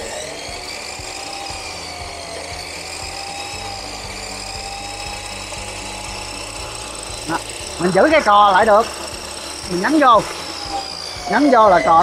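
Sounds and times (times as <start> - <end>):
cut-off saw motor whining: 0.0 - 12.0.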